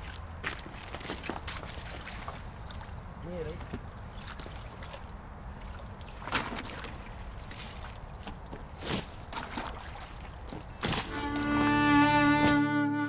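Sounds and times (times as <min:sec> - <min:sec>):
water sloshing and splashing: 0:00.0 - 0:12.8.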